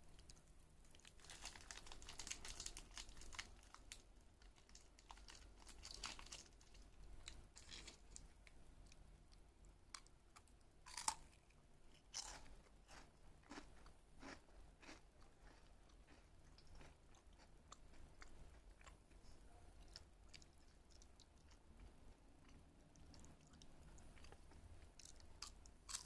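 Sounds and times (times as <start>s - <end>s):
chewing crunchy snack: 0.3s - 8.3s, 9.9s - 19.2s, 19.8s - 26.0s.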